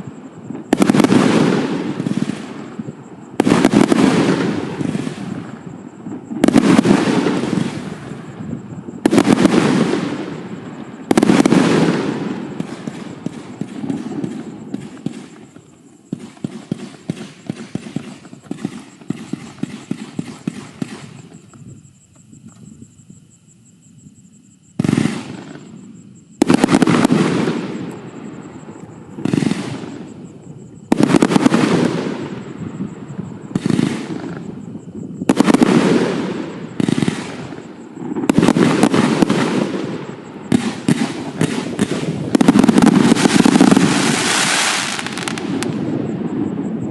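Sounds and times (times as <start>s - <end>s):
firework cracks and bursts: 0.0s - 21.7s, 24.8s - 25.8s, 26.4s - 30.2s, 30.8s - 32.6s, 33.5s - 34.6s, 35.2s - 46.9s.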